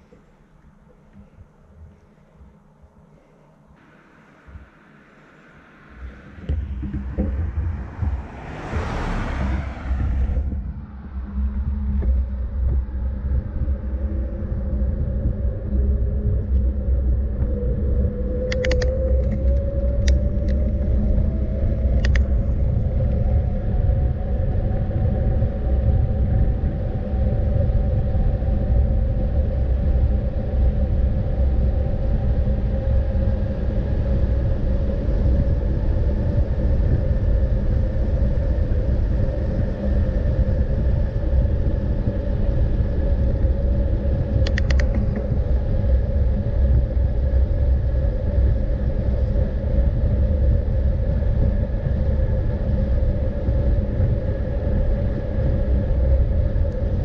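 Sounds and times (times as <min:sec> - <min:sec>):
vehicle engine rumbling: 0:00.0 - 0:57.0.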